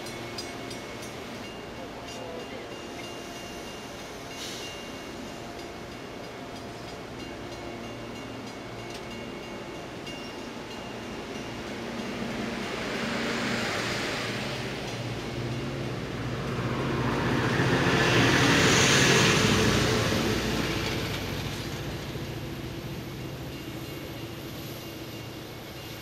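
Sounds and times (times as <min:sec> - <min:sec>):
diesel locomotive passing: 0:00.0 - 0:26.0
train wheels rumbling on rails: 0:00.0 - 0:26.0.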